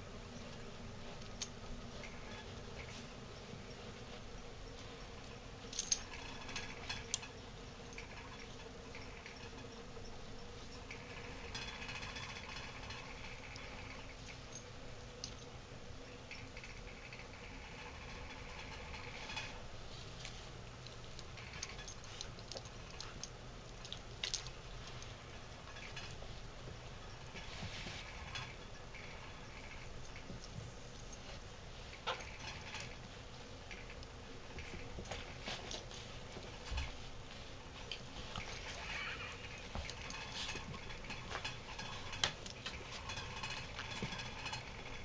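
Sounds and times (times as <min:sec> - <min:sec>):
low room hum: 0:00.0 - 0:45.0
animals scuffling on carpet: 0:00.1 - 0:11.3, 0:19.1 - 0:44.4.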